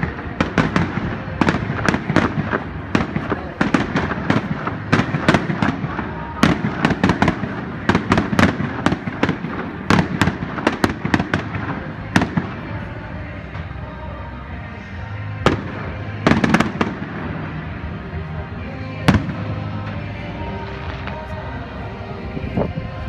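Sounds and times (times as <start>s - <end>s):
fireworks bangs and crackles: 0.0s - 14.1s, 15.3s - 21.7s.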